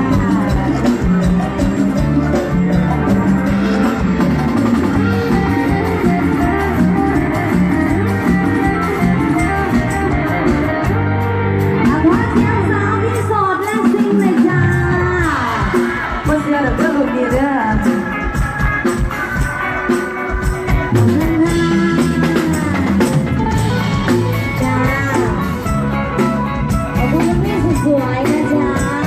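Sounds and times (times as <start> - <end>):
person singing: 0.0 - 13.1, 13.8 - 29.0
drum kit beat: 0.0 - 29.0
live band music: 0.0 - 29.0.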